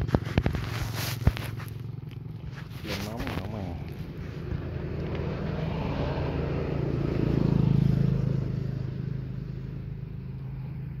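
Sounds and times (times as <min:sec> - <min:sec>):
motor vehicle engine passing: 0:00.0 - 0:11.0.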